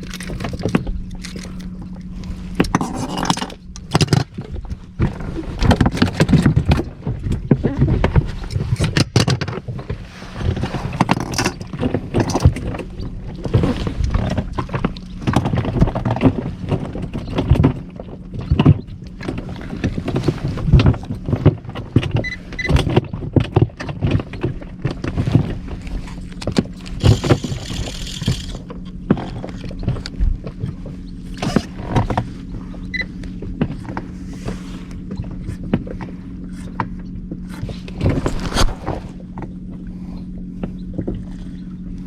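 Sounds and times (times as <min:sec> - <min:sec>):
outboard motor humming: 0:00.0 - 0:42.0.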